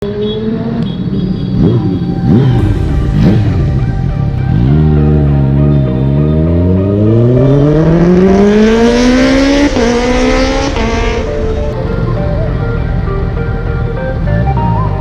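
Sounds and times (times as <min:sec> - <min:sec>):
engine accelerating hard: 0:00.6 - 0:15.0.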